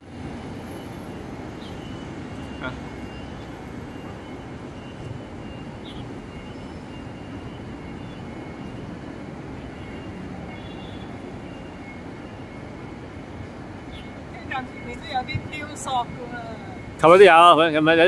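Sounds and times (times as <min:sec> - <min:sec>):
city background rumble: 0:00.0 - 0:18.0.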